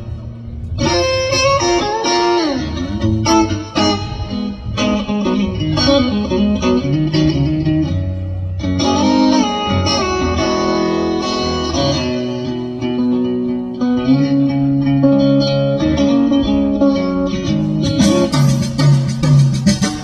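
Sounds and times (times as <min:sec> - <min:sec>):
electric guitar bent sliding notes: 0:00.0 - 0:20.0
heavy bass line: 0:00.0 - 0:20.0
rock blues music over pa: 0:00.0 - 0:20.0.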